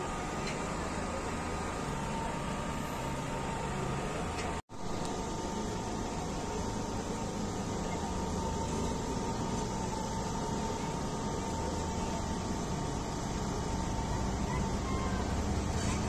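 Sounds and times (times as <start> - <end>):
diesel locomotive rumbling: 0.0 - 16.0.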